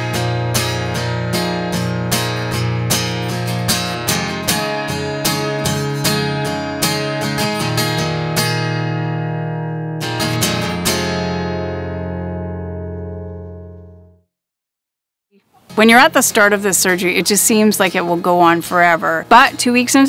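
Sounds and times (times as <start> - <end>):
acoustic guitar strumming: 0.0 - 14.3, 15.5 - 20.0.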